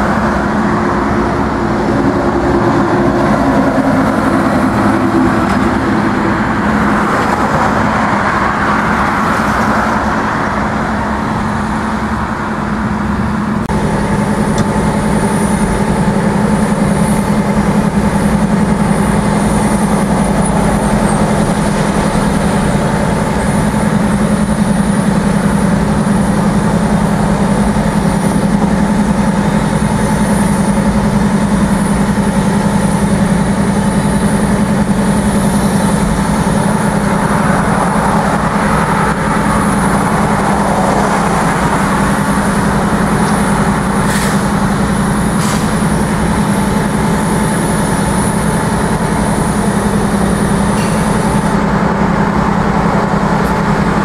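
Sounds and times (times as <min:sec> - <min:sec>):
engine hum with high whine: 0:00.0 - 0:54.0
heavy road traffic: 0:00.0 - 0:54.0
truck passing: 0:00.0 - 0:54.0.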